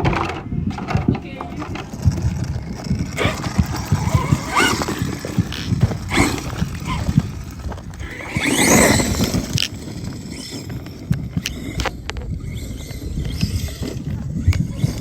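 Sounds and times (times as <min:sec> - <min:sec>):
rc car knocking and scraping: 0:00.0 - 0:15.0
rising electric motor whine: 0:02.0 - 0:15.0.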